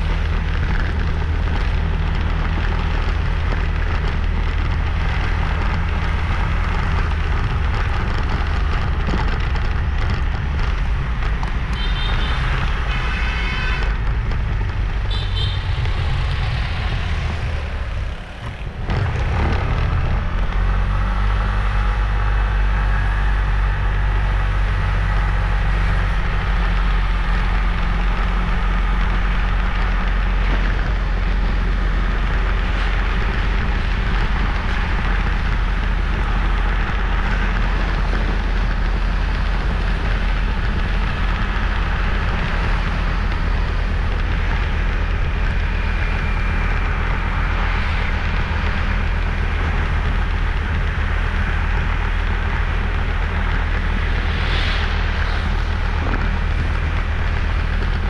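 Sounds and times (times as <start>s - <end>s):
motorbike engine humming: 0.0s - 58.0s
wind and road noise: 0.0s - 58.0s.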